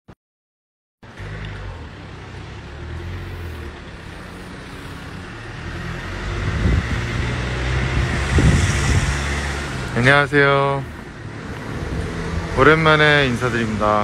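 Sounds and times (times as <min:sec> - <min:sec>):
road traffic rumble: 0:01.0 - 0:14.0.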